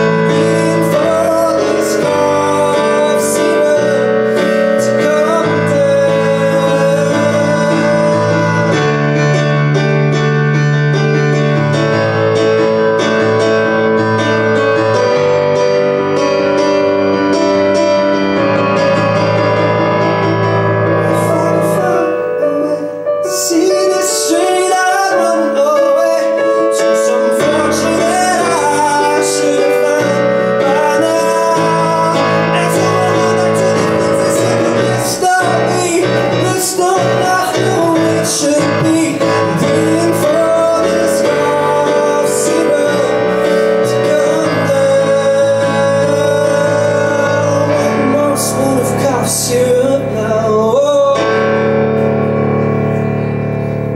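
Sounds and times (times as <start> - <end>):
keyboard playing: 0.0 - 53.9.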